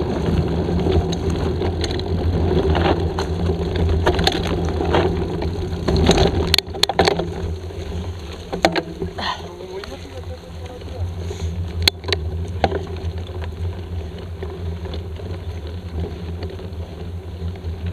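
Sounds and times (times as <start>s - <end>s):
bike rattling knocks: 0.0s - 17.0s
wind and tyre rumble: 0.0s - 17.9s.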